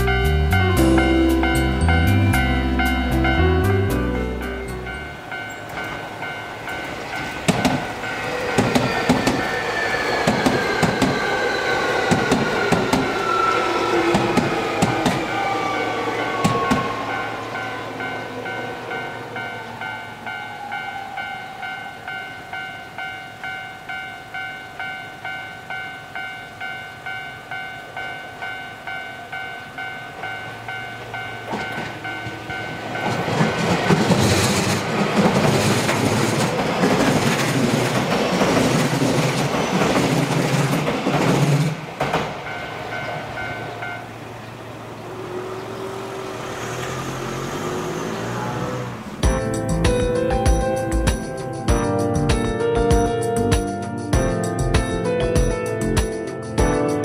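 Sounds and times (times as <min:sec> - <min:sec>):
level-crossing warning bell dinging: 0:00.0 - 0:38.4, 0:42.4 - 0:53.6
train rumble and wheel clatter: 0:00.0 - 0:56.7.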